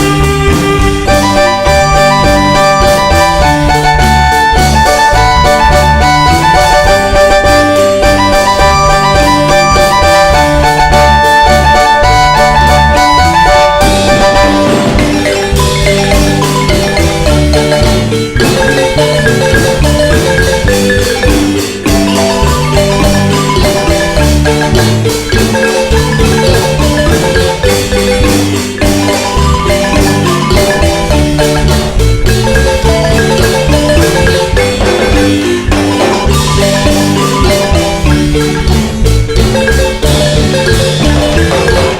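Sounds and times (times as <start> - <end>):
marimba ensemble playing dance tune: 0.0 - 41.9.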